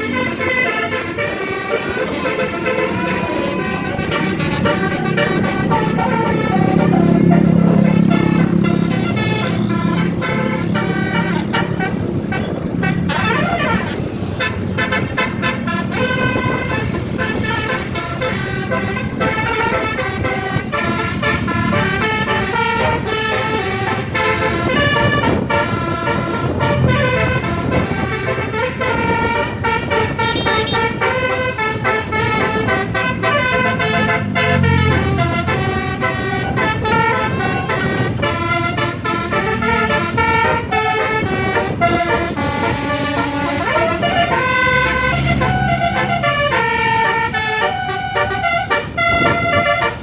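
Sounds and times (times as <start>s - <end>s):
bus engine and road noise: 0.0s - 50.0s
bus horn playing melodic tunes: 0.0s - 50.0s.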